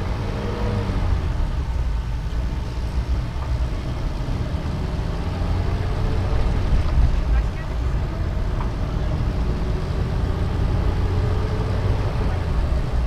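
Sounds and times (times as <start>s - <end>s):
car engine drone: 0.0s - 13.0s
road noise: 0.0s - 13.0s.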